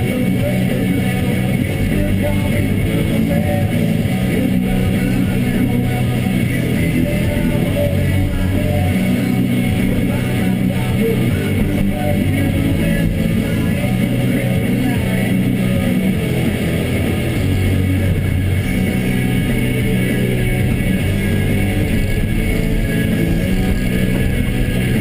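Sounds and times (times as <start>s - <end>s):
excavator diesel engine running: 0.0s - 25.0s
rock music with guitar: 0.0s - 25.0s.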